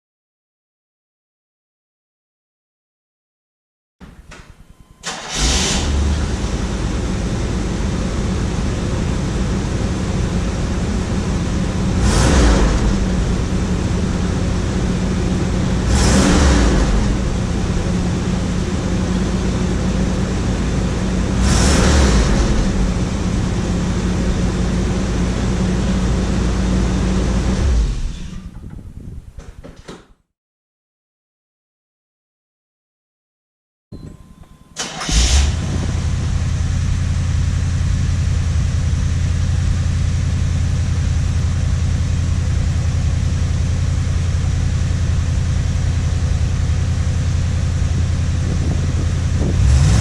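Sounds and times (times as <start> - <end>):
engine throttle blips: 4.0 - 29.2, 34.0 - 50.0
car engine cranking and idling: 5.0 - 29.2, 34.0 - 50.0.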